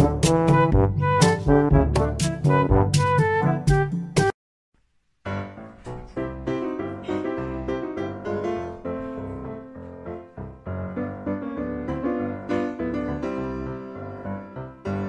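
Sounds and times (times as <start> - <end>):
piano-led tune: 0.0 - 4.4, 5.2 - 15.0.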